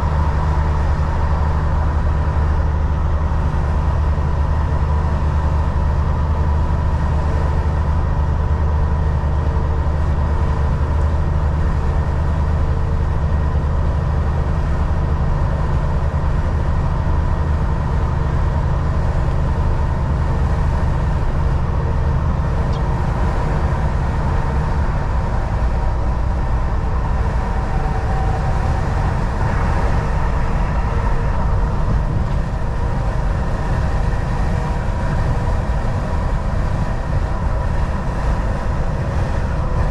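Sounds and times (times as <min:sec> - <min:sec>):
road and tyre noise: 0:00.0 - 0:39.9
truck engine drone: 0:00.0 - 0:39.9.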